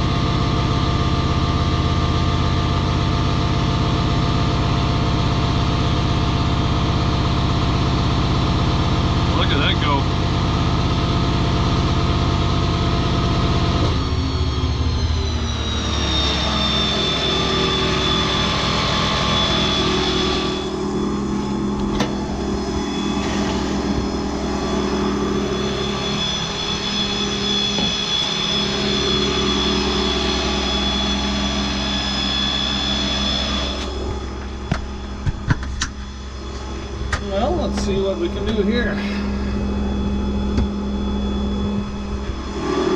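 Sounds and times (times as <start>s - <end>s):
air compressor high whine: 0.0s - 42.9s
diesel engine running: 0.0s - 42.9s.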